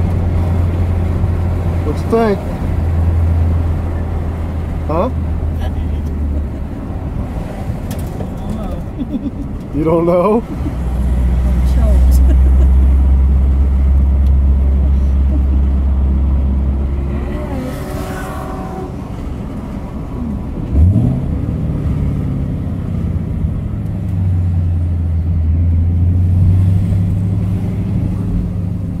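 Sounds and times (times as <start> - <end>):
car engine humming: 0.0 - 29.0
car engine revving: 0.0 - 29.0.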